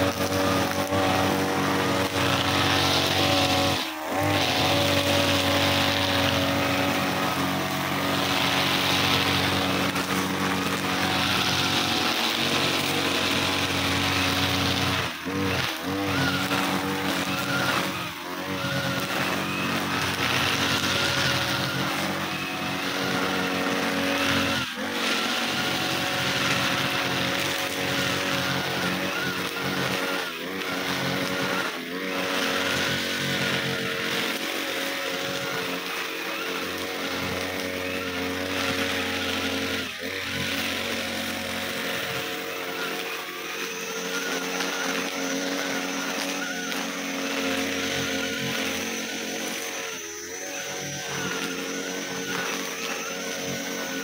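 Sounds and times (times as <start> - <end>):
brush cutter engine running: 0.0 - 54.0
nylon line sweeping grass: 0.0 - 54.0.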